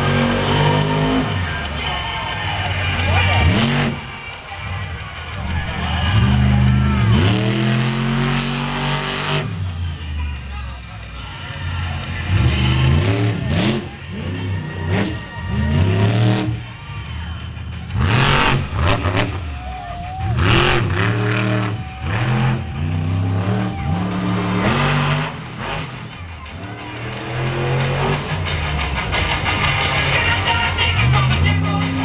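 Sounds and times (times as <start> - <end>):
truck engine revving hard: 0.0 - 10.3, 11.6 - 32.0.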